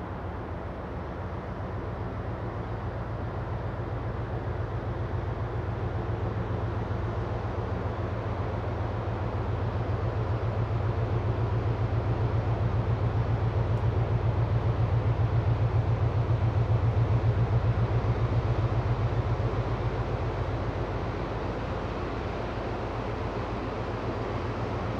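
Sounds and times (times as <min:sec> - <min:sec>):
ship engine and propeller throbbing: 0:00.0 - 0:24.9.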